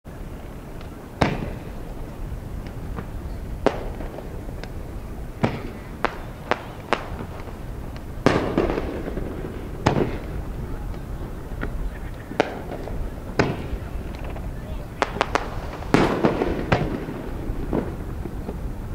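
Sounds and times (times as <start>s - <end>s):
faint fireworks pops: 0.1s - 18.9s
fireworks bangs: 0.1s - 18.9s
rumbling echo: 0.1s - 18.9s.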